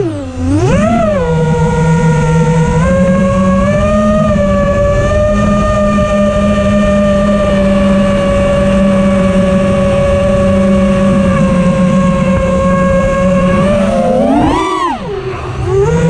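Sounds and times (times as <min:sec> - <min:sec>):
drone propellers whining: 0:00.0 - 0:16.0
wind noise: 0:00.0 - 0:16.0.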